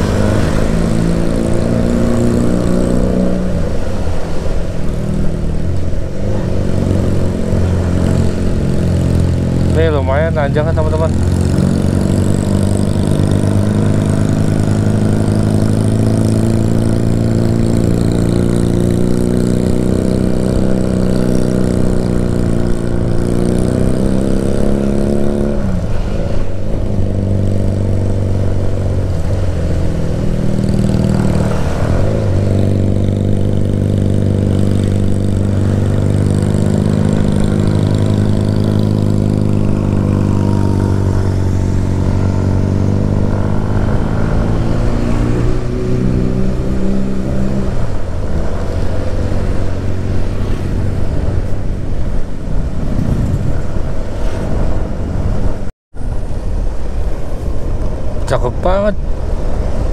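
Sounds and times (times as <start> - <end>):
motorcycle engine under load: 0.0 - 54.2.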